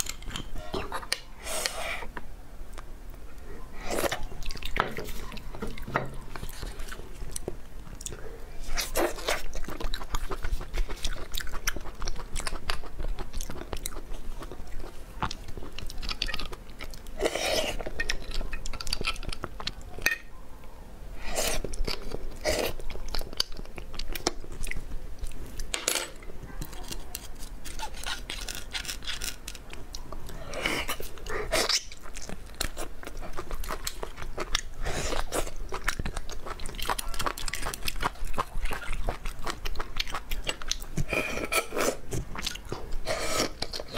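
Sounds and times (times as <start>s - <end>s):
wet chewing and crunching: 3.8s - 20.0s, 21.4s - 25.7s, 26.6s - 43.9s.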